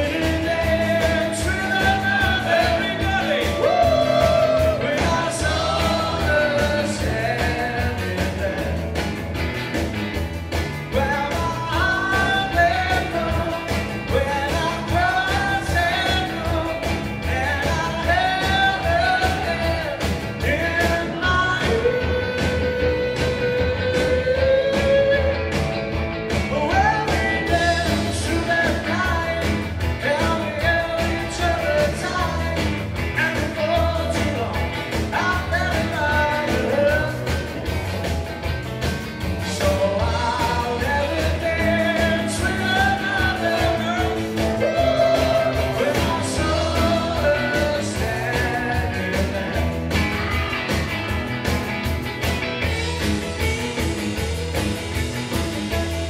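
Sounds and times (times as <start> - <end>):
lead vocal singing: 0.0 - 9.0, 10.9 - 25.5, 26.4 - 37.6, 39.4 - 49.8
drums: 0.0 - 56.0
electric guitars: 0.0 - 56.0.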